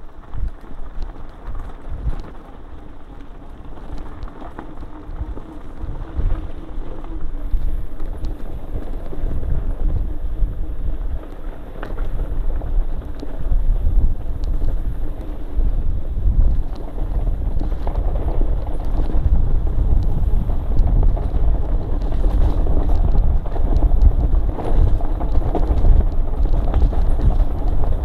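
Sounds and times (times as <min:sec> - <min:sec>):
bike rattling over bumps: 0:00.0 - 0:28.0
wind buffeting microphone: 0:00.0 - 0:28.0.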